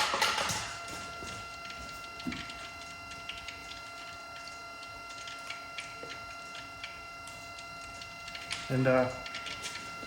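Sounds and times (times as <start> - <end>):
electric water pump whine: 0.0 - 10.0
light irregular ticks: 1.6 - 9.9.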